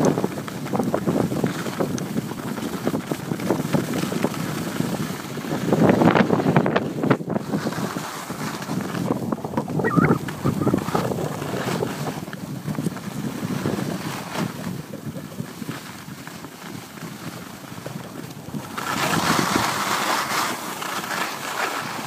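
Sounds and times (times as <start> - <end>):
wind buffeting microphone: 0.0 - 20.0
skis scraping on snow: 0.0 - 22.0.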